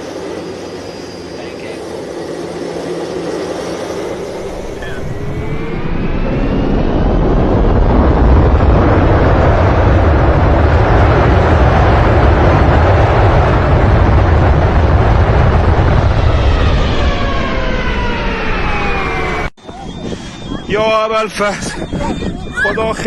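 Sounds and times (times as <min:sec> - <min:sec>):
airliner crash landing roar: 0:00.0 - 0:23.0
falling jet engine whines: 0:00.0 - 0:23.0.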